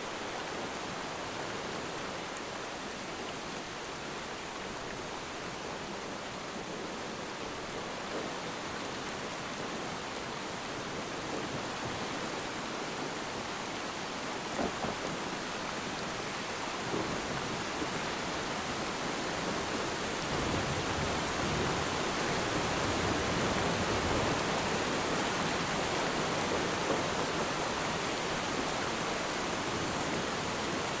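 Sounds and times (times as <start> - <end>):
rain falling on water: 0.0 - 31.0.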